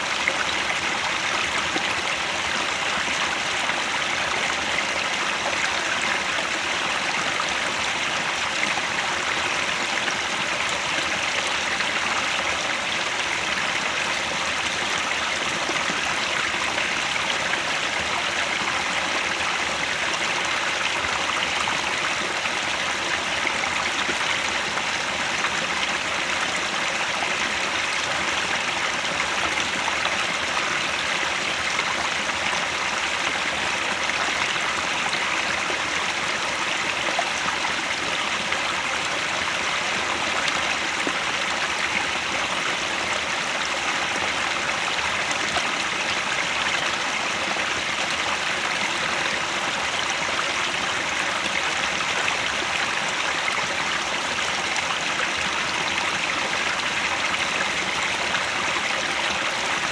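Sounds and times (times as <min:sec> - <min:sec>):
stream water splashing over rocks: 0:00.0 - 0:59.9.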